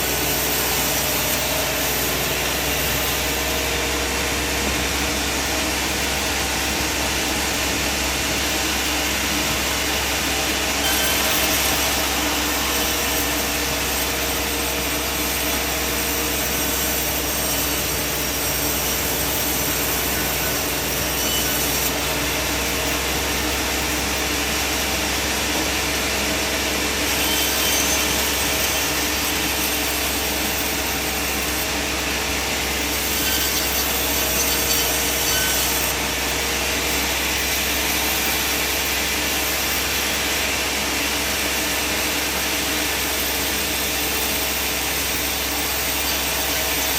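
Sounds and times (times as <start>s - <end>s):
band saw blade cutting wood: 0.0s - 46.9s
machine hum: 0.0s - 46.9s.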